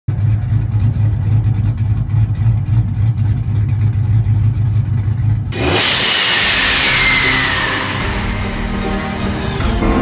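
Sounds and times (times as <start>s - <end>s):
pickup truck engine idling: 0.1s - 10.0s.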